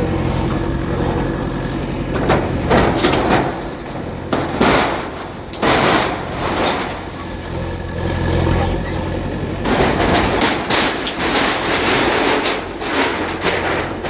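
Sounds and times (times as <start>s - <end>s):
bulldozer diesel engine: 0.0s - 14.0s
structure crashing and scraping: 0.0s - 14.0s.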